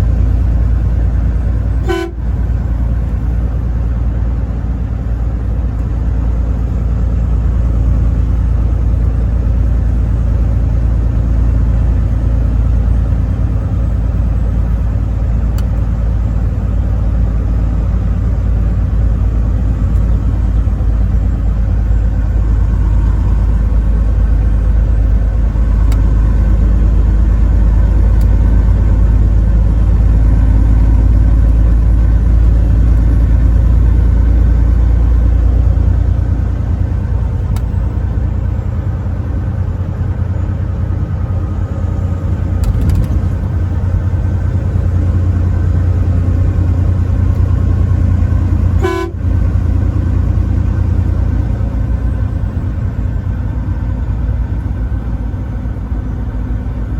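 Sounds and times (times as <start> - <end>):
truck engine and road rumble: 0.0 - 56.9.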